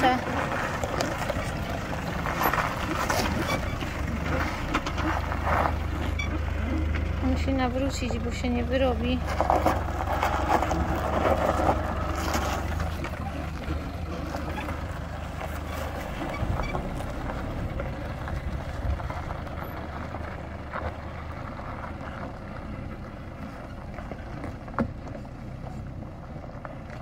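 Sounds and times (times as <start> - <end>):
truck engine pulling away: 0.0 - 27.0.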